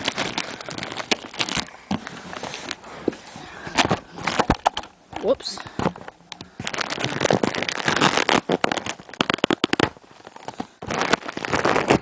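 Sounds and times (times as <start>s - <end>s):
packaging crackling and rustling: 0.0s - 12.0s.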